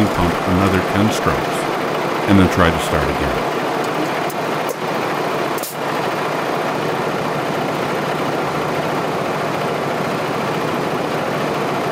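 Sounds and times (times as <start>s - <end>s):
diesel truck engine idling: 0.0s - 11.2s.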